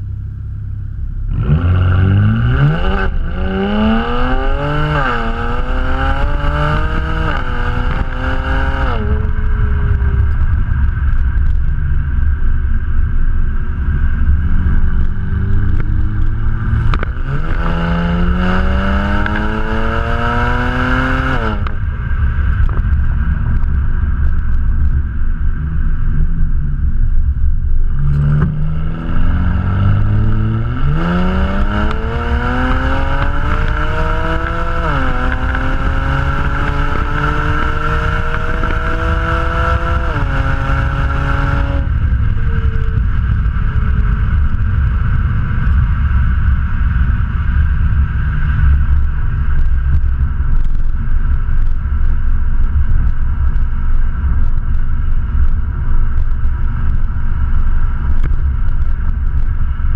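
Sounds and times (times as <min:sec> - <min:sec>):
car engine accelerating hard: 0:00.0 - 0:12.4, 0:13.3 - 0:51.0
turbo rushing noise: 0:00.0 - 0:59.9.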